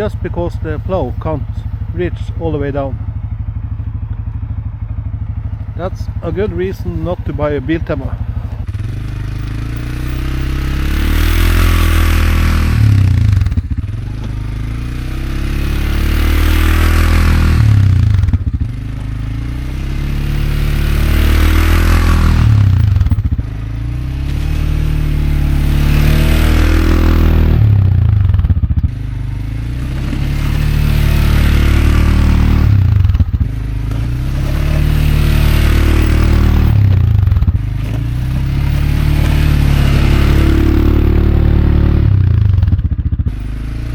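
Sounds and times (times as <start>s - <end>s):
engine revving under load: 0.0s - 43.9s
plow blade scraping snow: 5.9s - 28.3s, 29.5s - 42.4s.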